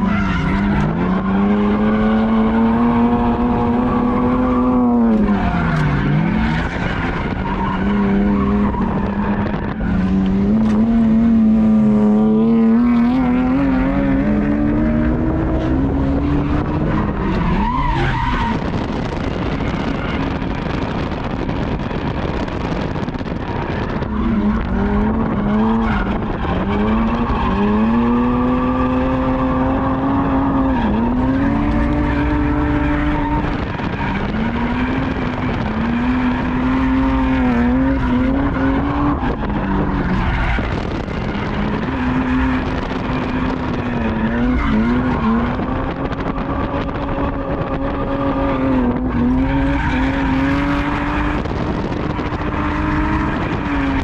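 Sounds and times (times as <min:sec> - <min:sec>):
car engine revving: 0:00.0 - 0:54.0
tires skidding on asphalt: 0:00.0 - 0:54.0.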